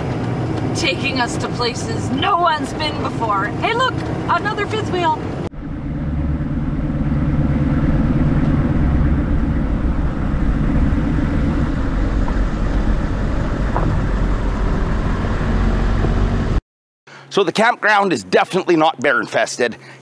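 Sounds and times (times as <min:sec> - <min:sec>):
truck engine drone: 0:00.0 - 0:16.6.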